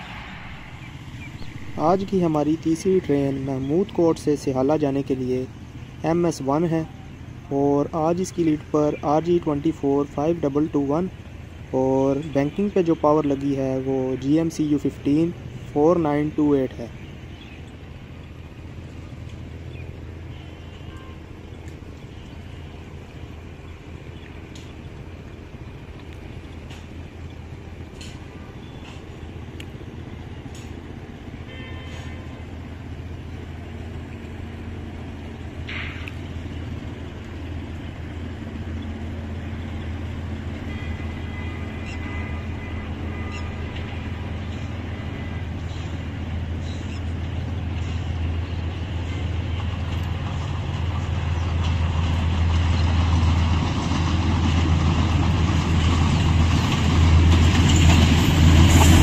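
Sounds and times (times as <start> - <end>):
locomotive engine hum: 0.0 - 59.0.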